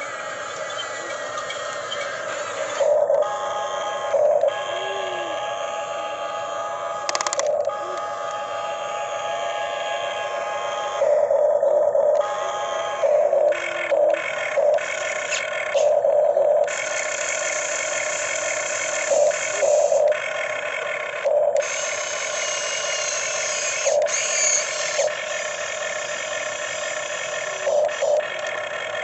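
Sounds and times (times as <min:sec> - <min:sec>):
model excavator motors whining: 0:00.0 - 0:29.0.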